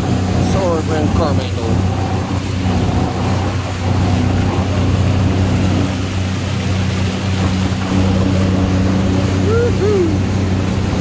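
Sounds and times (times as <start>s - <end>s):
personal watercraft engine droning: 0.0s - 11.0s
water rushing: 0.0s - 11.0s.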